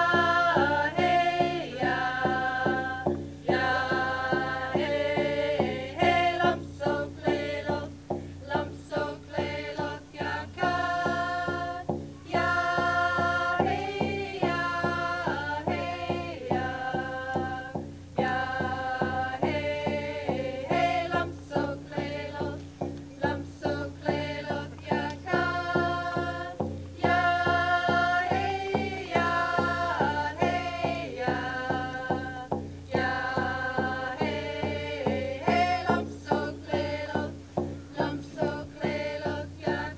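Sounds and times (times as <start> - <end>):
singing voices over a beat: 0.0 - 39.9.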